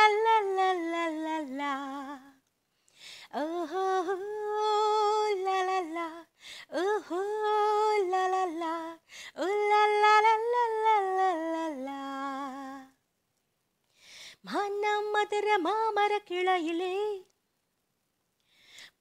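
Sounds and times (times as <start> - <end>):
woman singing wordless melody: 0.0 - 2.5, 3.2 - 13.0, 14.4 - 17.4.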